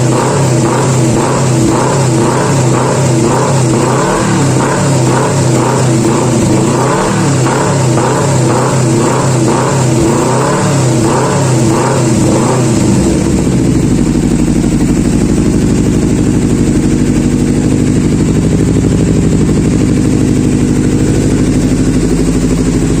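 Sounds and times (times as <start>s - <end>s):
motorcycle engine revving and idling: 0.0s - 23.0s.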